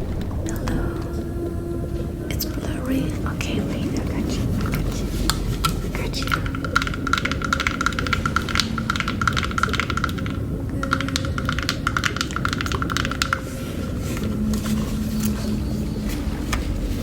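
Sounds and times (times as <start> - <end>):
low underwater rumble: 0.0 - 17.0
rapid tapping and clicking: 2.4 - 17.0.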